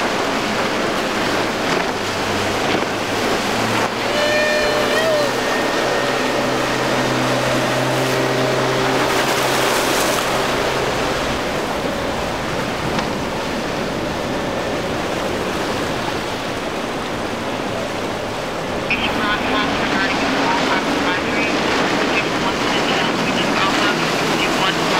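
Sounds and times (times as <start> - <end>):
outboard motor humming: 0.0 - 24.9
wake and surf rushing: 0.0 - 24.9.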